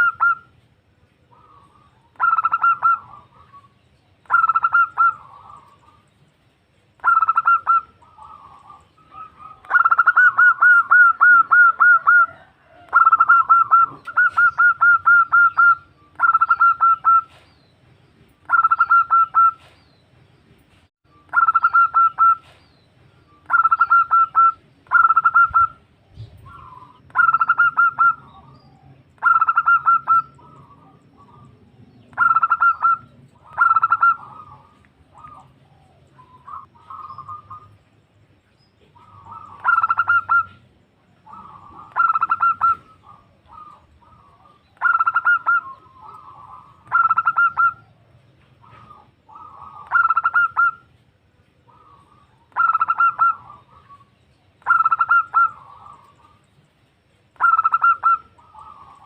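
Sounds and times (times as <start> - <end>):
dove cooing: 0.0 - 0.5, 1.2 - 6.1, 7.0 - 17.4, 18.5 - 19.8, 21.3 - 22.6, 23.4 - 37.8, 38.8 - 51.0, 51.6 - 56.5, 57.4 - 59.0.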